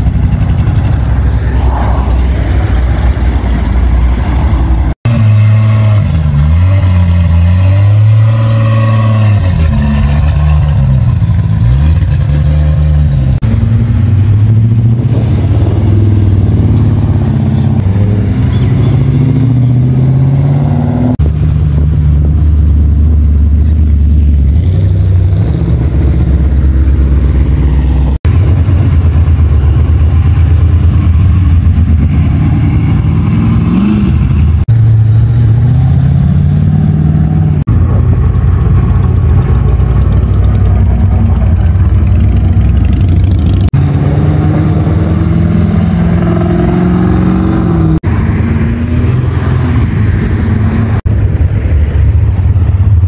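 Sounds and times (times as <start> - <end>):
car engines idling and revving: 0.0 - 53.0.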